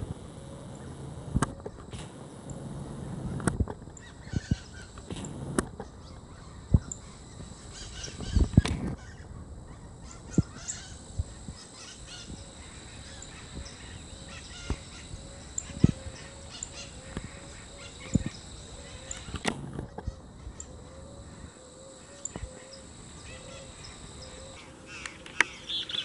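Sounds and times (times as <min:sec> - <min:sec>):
faint high bird chirps: 0:04.0 - 0:26.0.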